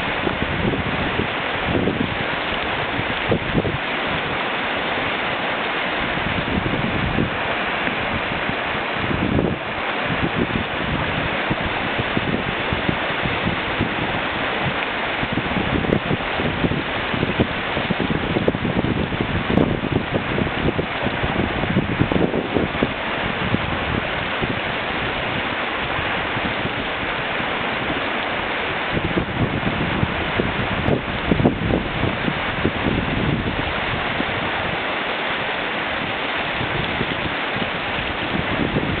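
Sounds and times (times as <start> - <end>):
whitewater rapids rushing: 0.0 - 39.0
wind buffeting microphone: 0.0 - 39.0.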